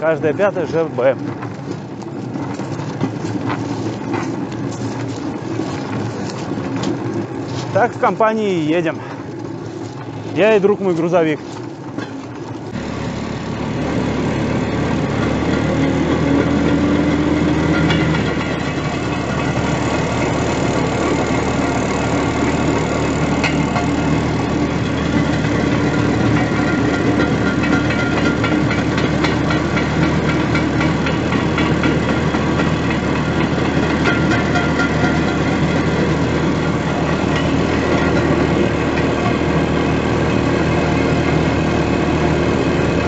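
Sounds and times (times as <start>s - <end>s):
engine drone: 0.0s - 43.0s
steel wheels rumbling on rails: 0.0s - 43.0s.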